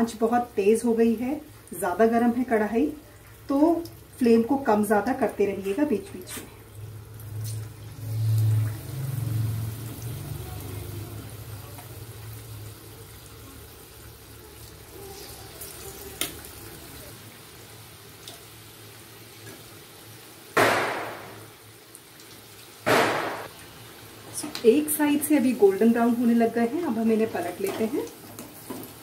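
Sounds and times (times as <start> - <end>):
deep-frying sizzle in oil: 0.0 - 29.0.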